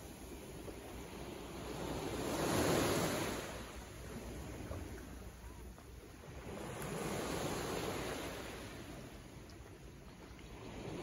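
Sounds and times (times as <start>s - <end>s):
small waves washing in: 0.0s - 11.0s.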